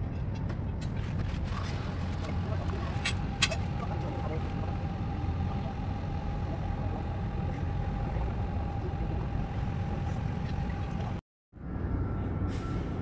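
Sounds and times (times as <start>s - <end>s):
low outdoor rumble: 0.0s - 13.0s
faint hum: 1.5s - 12.5s.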